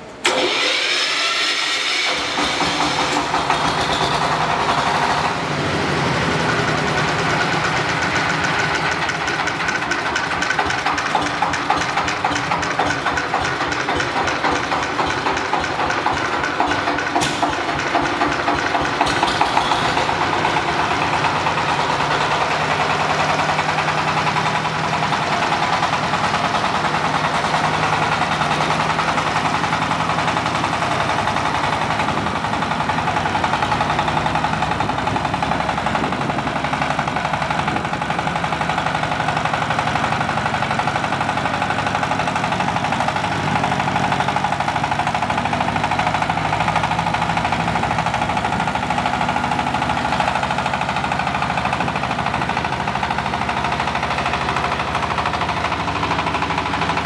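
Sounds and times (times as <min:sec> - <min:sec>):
diesel engine pulsing: 0:00.0 - 0:57.0.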